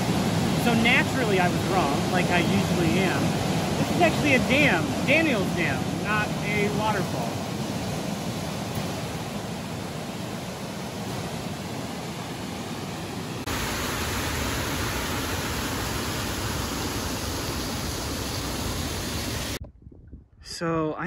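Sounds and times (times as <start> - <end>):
water rushing over dam: 0.0 - 19.6.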